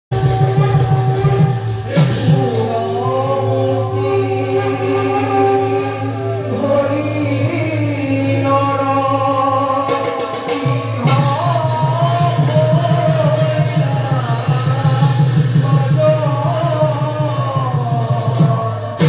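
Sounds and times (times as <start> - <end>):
voices singing devotional song: 0.2 - 19.0.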